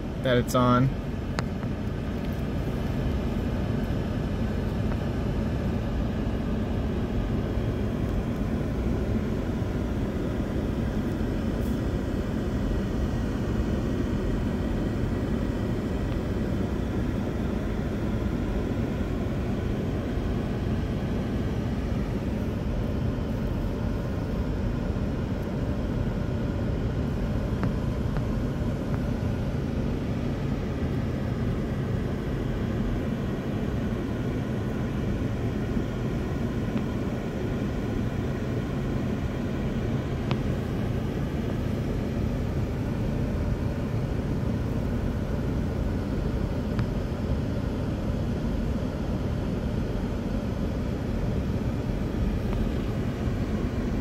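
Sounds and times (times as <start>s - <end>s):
car driving from inside cabin: 0.0s - 54.0s.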